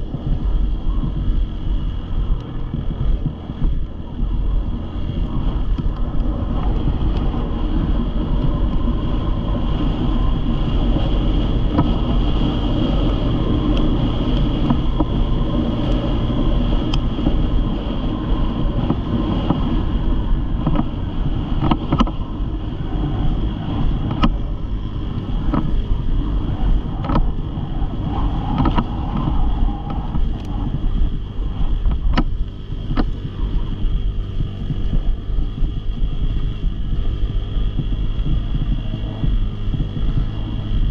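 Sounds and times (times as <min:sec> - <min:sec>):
vehicle engine running: 0:00.0 - 0:40.9
wind on microphone: 0:00.0 - 0:40.9.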